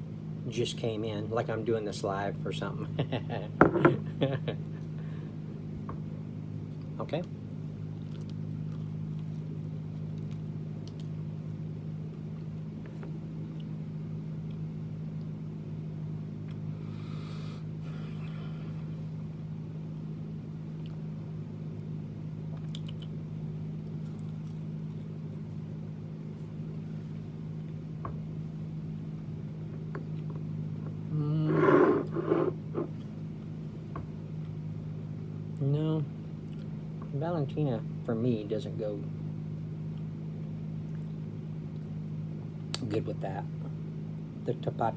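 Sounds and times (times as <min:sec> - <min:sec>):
machinery hum: 0:00.0 - 0:44.9.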